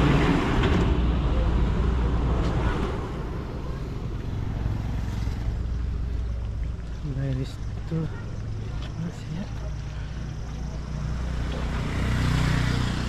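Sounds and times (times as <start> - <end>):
low traffic rumble: 0.0 - 13.0
vehicle passing: 0.0 - 13.0.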